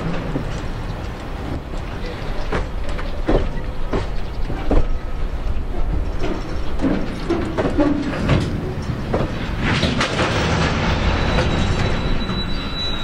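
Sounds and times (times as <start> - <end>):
freight train passing: 0.0 - 13.0
wheels clacking over rail joints: 0.0 - 13.0.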